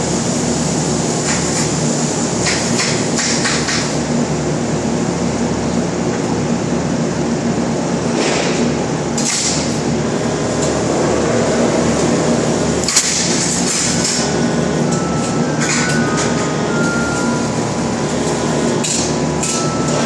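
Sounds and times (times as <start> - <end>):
shop machinery drone: 0.0 - 20.0.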